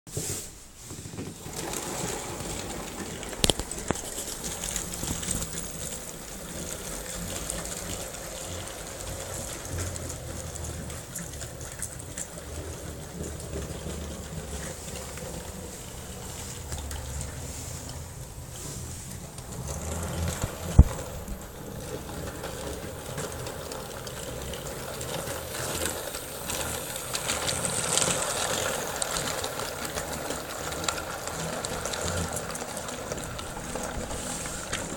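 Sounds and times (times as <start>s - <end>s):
wheel rattle: 0.2s - 34.9s
toy train motor whirring: 1.4s - 18.0s, 18.6s - 34.9s.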